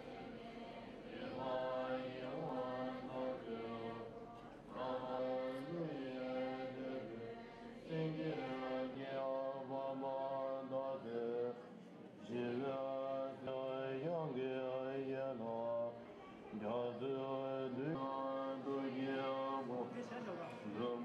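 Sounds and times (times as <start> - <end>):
monks chanting: 0.0 - 21.0.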